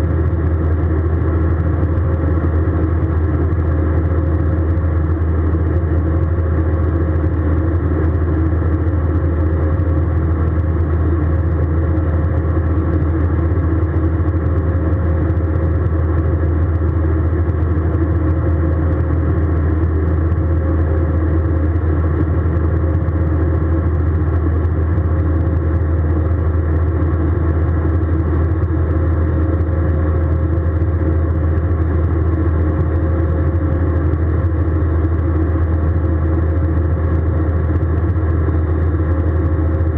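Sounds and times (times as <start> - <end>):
jet engines and airflow drone: 0.0 - 39.9.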